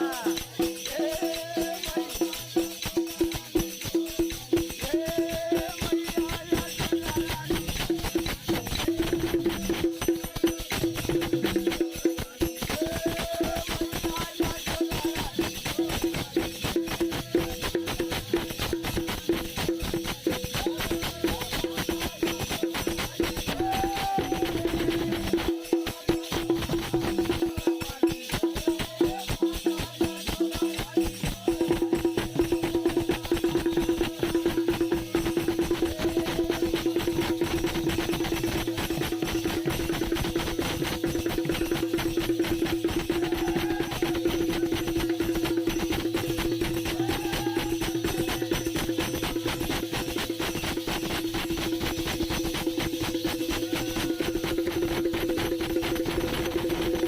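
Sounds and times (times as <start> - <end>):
fast folk drumming: 0.0 - 57.0
jingling shaken percussion: 0.0 - 57.0.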